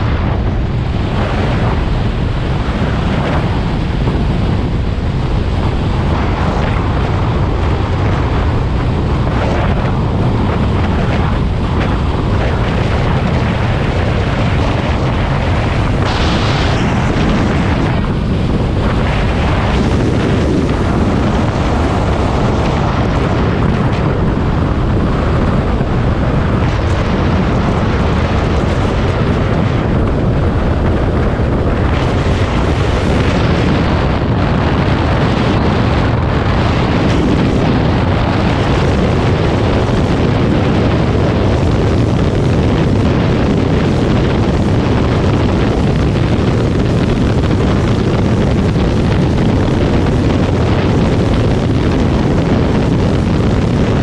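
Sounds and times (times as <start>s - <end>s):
road noise: 0.0s - 54.0s
wind rush on microphone: 0.0s - 54.0s.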